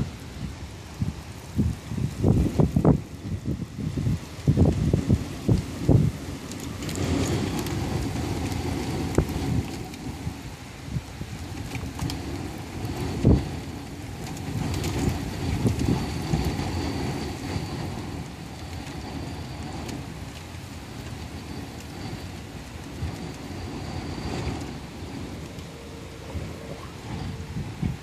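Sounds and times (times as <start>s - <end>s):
rain hissing: 0.0s - 28.0s
wind gusts thumping microphone: 0.0s - 28.0s.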